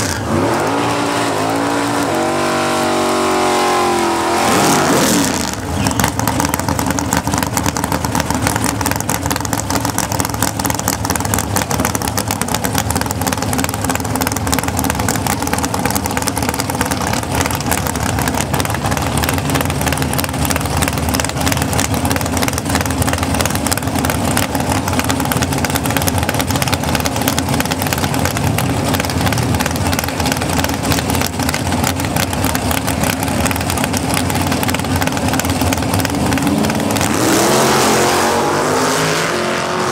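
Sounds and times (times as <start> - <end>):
race car engine idling roughly: 0.0 - 38.7.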